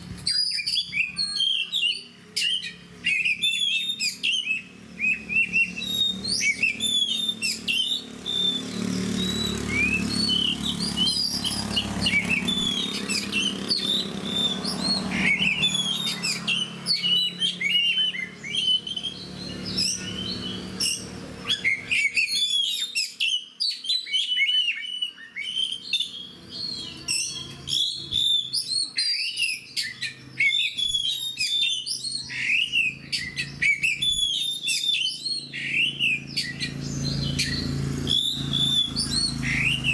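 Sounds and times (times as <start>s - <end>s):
bird singing whistles and chirps: 0.1s - 39.9s.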